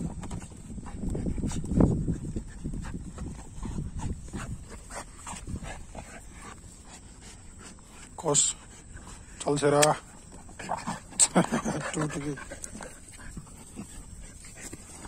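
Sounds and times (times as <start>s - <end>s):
dogs growling and scuffling: 0.0s - 15.0s.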